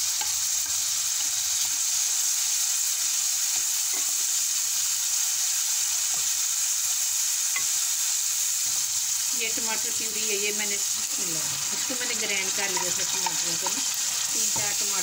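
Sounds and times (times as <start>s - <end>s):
vegetables frying in oil: 0.0s - 15.0s.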